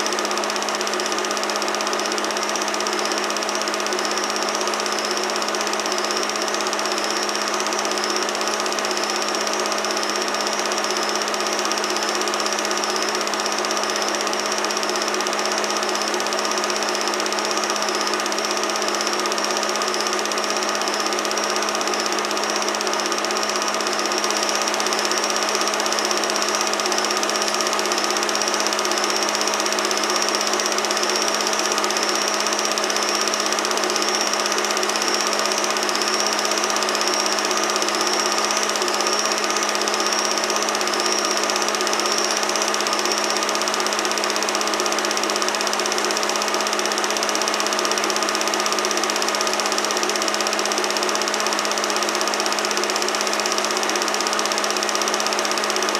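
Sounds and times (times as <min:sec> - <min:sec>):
film projector whirring: 0:00.0 - 0:55.9.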